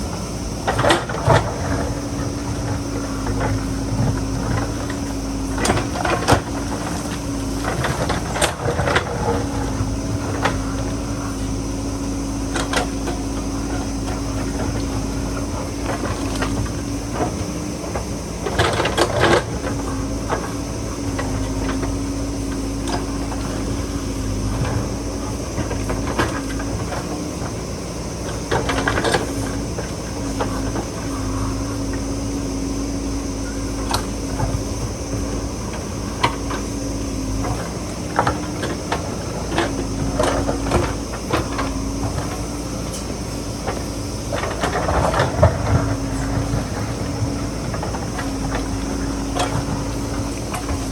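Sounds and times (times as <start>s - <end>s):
diesel engine running under load: 0.0s - 50.9s
digger clanking and scraping: 0.0s - 50.9s.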